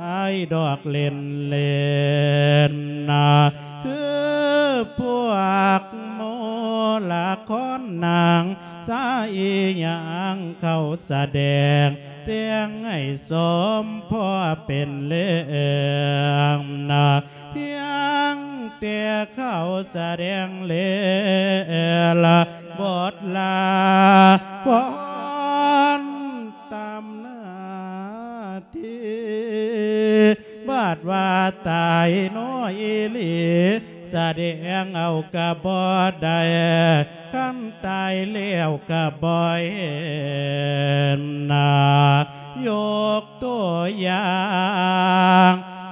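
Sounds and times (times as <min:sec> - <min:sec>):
man singing melodic chant: 0:00.0 - 0:45.9.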